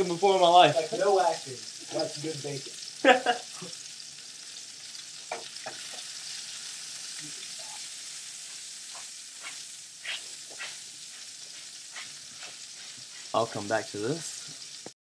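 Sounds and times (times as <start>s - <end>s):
chicken sizzling in a skillet: 0.0s - 15.0s.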